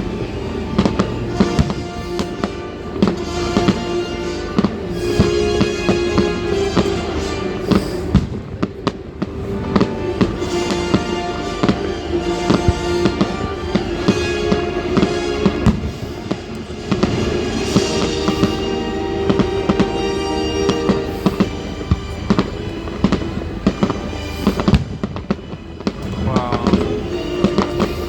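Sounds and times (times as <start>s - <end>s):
fireworks bangs and crackles: 0.0s - 28.0s
music playing: 0.0s - 28.0s.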